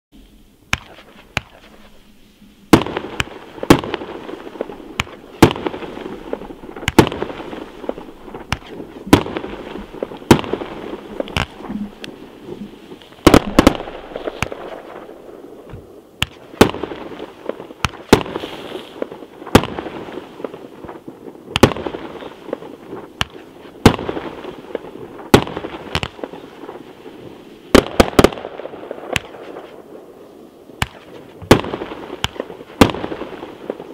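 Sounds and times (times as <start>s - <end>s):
faint firework pops: 0.7s - 2.0s, 2.7s - 15.1s, 15.7s - 26.4s, 29.1s - 29.8s, 30.8s - 33.9s
firework shots banging: 0.7s - 2.0s, 2.7s - 12.2s, 13.2s - 26.5s, 27.7s - 29.8s, 30.8s - 33.9s.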